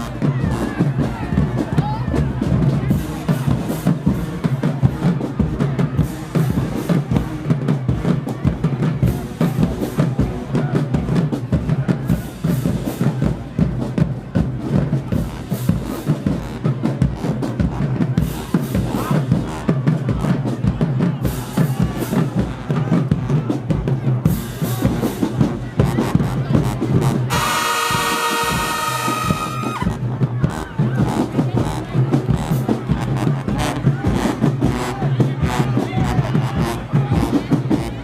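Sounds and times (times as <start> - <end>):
snare and bass drum cadence: 0.0 - 38.0.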